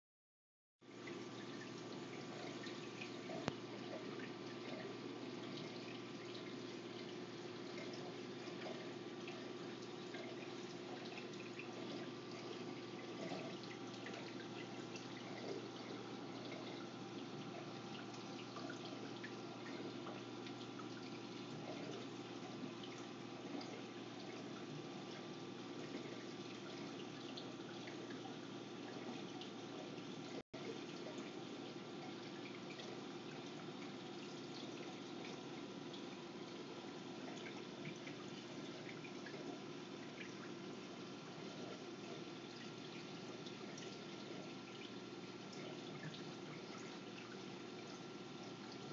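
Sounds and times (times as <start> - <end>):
water drips and splashes: 0.9 - 48.9
water trickling: 0.9 - 48.9.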